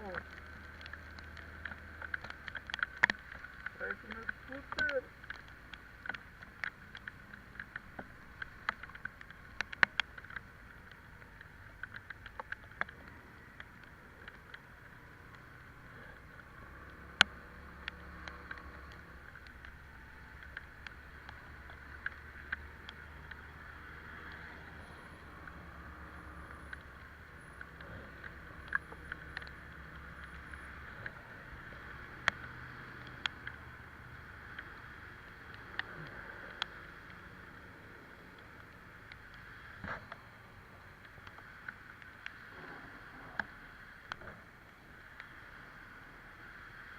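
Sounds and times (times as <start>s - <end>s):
raindrops ticking on camera: 0.0s - 46.9s
wind and wet road hiss: 0.0s - 46.9s.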